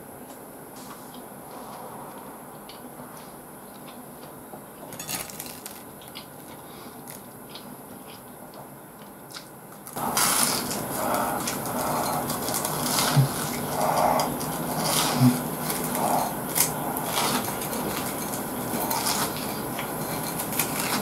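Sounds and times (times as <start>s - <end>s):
crunching and chewing fried shrimp: 2.1s - 21.0s.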